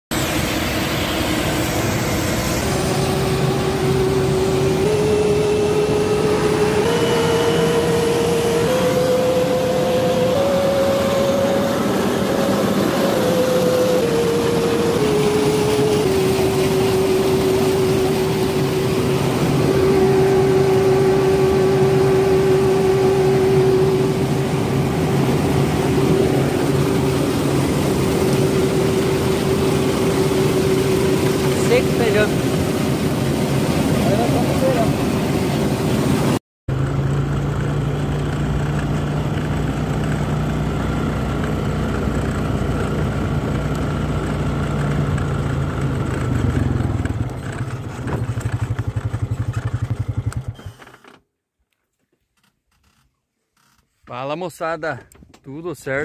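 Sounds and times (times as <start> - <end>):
combine harvester drone and whine: 0.1 - 50.9.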